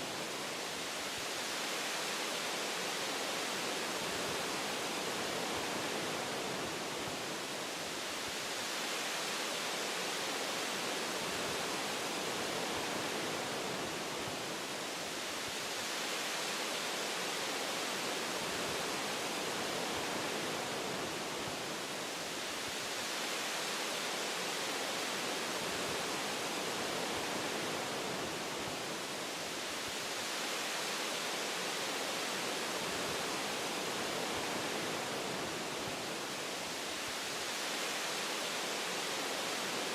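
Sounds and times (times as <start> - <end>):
wind through trees: 0.0 - 39.9.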